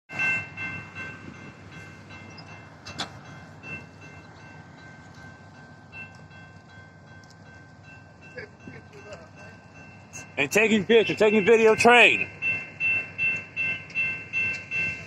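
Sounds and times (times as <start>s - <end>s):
crossing bell ringing: 0.1s - 15.0s
train rumble: 0.1s - 15.0s.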